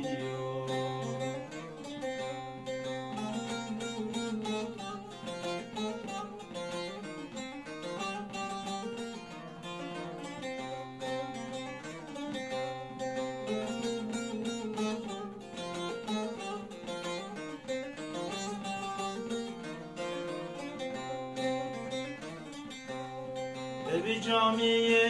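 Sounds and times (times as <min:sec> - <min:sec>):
long-necked lute picked melody: 0:00.0 - 0:25.0.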